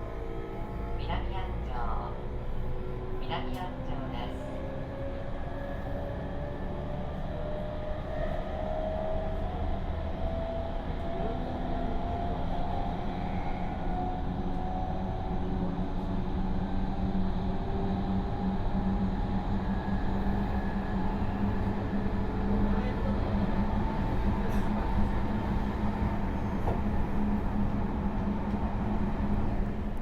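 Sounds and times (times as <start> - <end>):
rumble of train wheels: 0.0 - 30.0
train inverter whine: 0.0 - 30.0.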